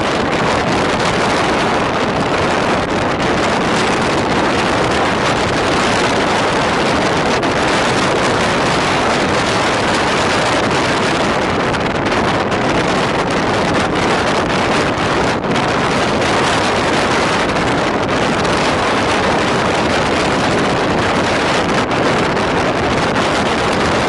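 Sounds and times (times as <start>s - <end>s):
train running at speed: 0.0s - 24.0s
wind buffeting microphone: 0.0s - 24.0s.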